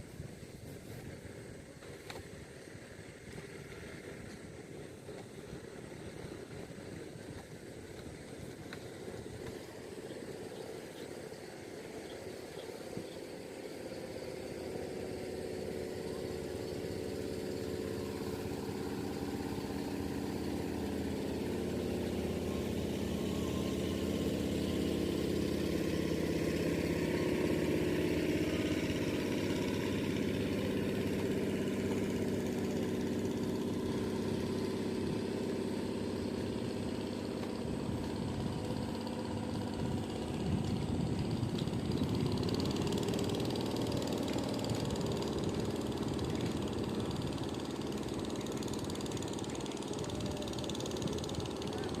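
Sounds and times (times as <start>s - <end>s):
motor engine running: 0.0s - 52.0s.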